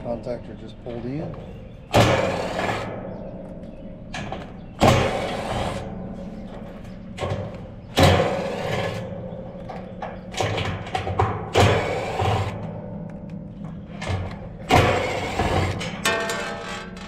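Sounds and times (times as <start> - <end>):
loud metallic clatters: 1.9 - 3.3, 4.1 - 17.0.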